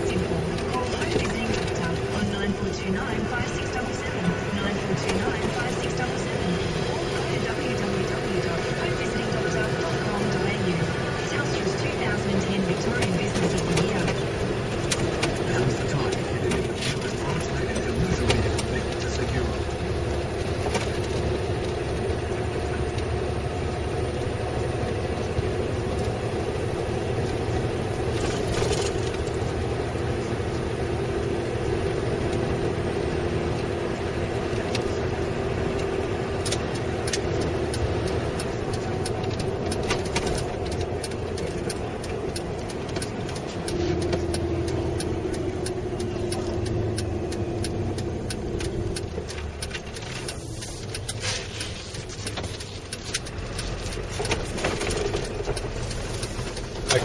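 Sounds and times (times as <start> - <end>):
road noise: 0.0 - 57.0
truck diesel engine droning: 0.0 - 57.0.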